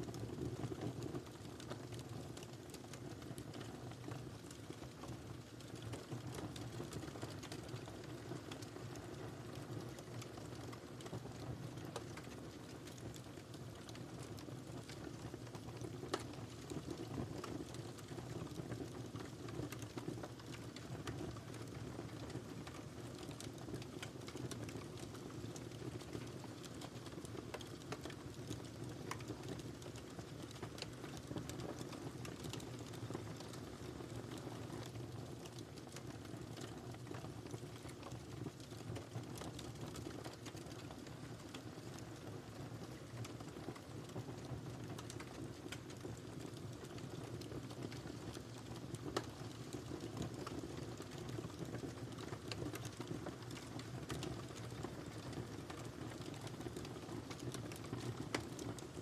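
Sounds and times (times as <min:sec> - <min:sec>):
fire crackles and pops: 0:00.0 - 0:59.0.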